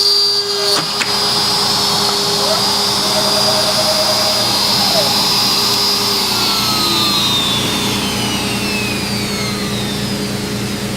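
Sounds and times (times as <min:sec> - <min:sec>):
router spindle whining: 0:00.0 - 0:10.9
low machine hum: 0:00.4 - 0:10.9.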